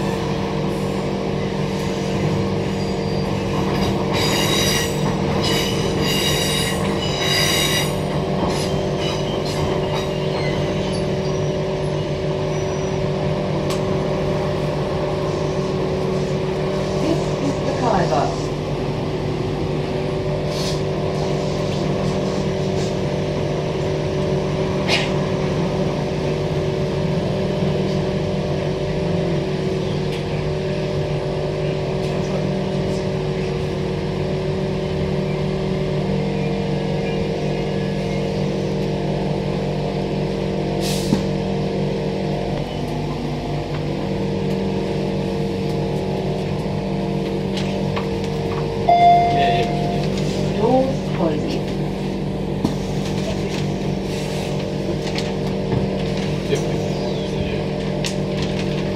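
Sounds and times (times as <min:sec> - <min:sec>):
wheels rumbling on rail: 0:00.0 - 0:58.9.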